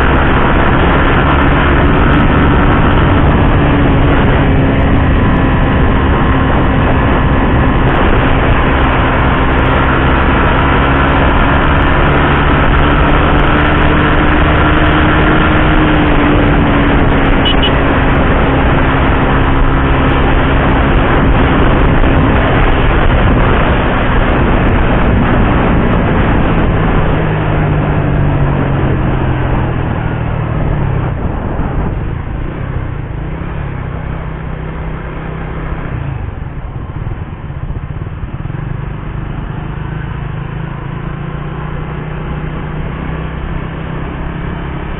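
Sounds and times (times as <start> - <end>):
constant rushing noise: 0.0 - 44.9
motorcycle engine running: 0.0 - 44.9.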